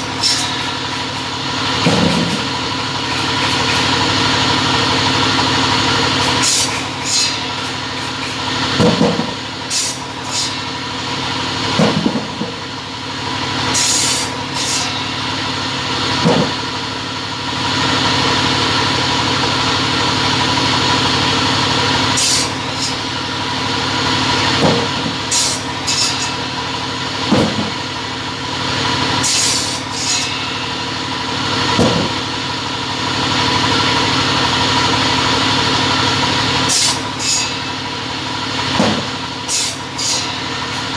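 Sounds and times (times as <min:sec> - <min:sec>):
cutting machine humming: 0:00.0 - 0:40.9.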